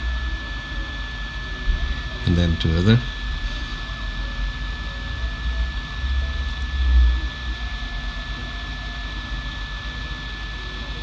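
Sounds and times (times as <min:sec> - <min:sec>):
high whine: 0:00.0 - 0:11.0.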